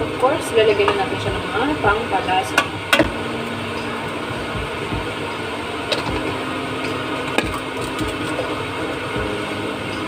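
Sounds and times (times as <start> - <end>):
constant low hum: 0.0 - 10.0
kitchen cooking hiss: 0.0 - 10.0.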